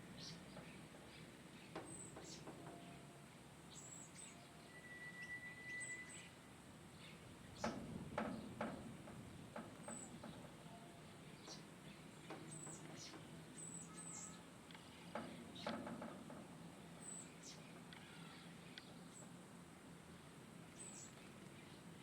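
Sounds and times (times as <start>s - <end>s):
small birds chirping: 0.0s - 3.1s, 3.7s - 4.6s, 5.7s - 16.1s, 16.8s - 19.4s, 20.0s - 22.0s.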